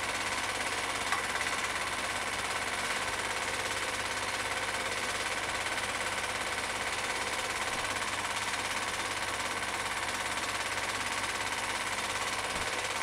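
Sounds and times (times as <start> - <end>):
film projector clatter: 0.0 - 13.0.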